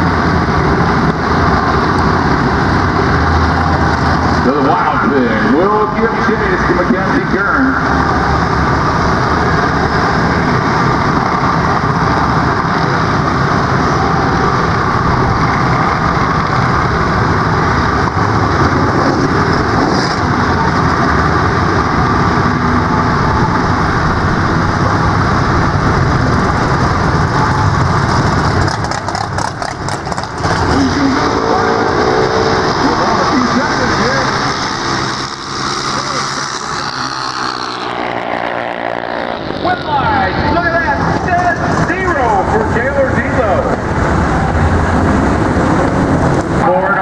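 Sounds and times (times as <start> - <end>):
small engines running: 1.4 - 43.4.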